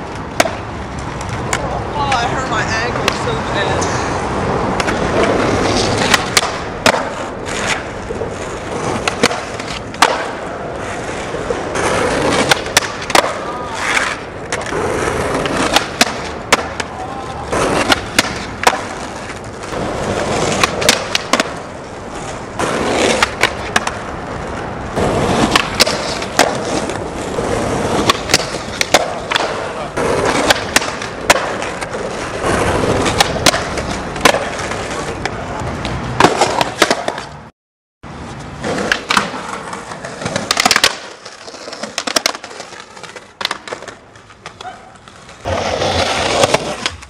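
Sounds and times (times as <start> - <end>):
skateboard clacking on ground: 0.0 - 4.0, 4.7 - 37.4, 38.2 - 47.0
skateboard wheels rolling on concrete: 0.0 - 47.0.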